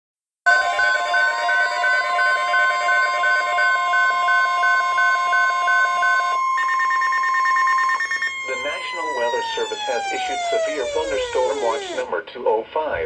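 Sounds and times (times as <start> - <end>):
steady high alert tone: 0.5 - 12.1.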